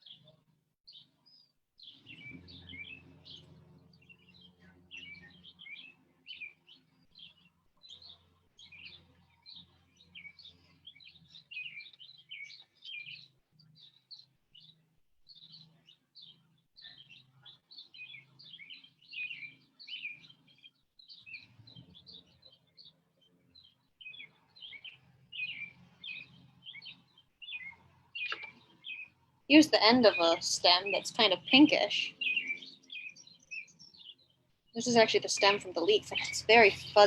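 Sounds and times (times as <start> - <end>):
birds chirping and singing: 0.9 - 37.0.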